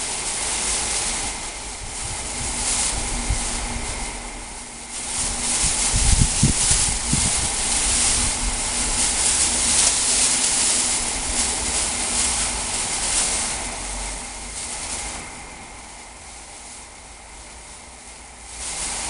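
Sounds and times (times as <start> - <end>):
plastic bags rustling and whooshing: 0.0 - 19.0.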